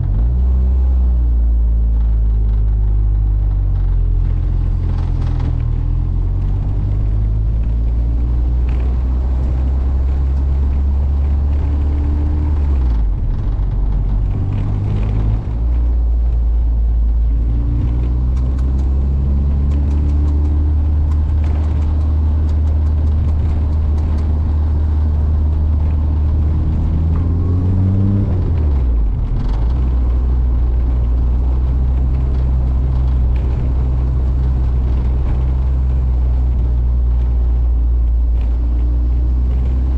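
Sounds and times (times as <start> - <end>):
turbocharged car engine running: 0.0 - 39.9.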